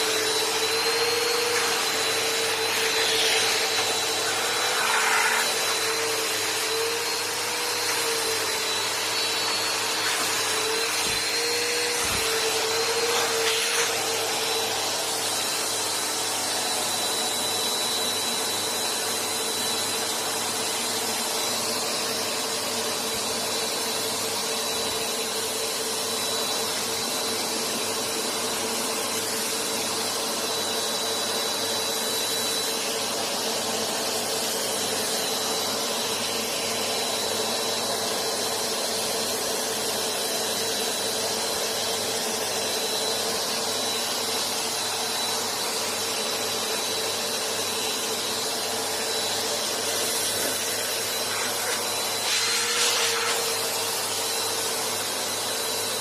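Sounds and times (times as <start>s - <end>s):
vacuum cleaners droning with whine: 0.0s - 56.0s.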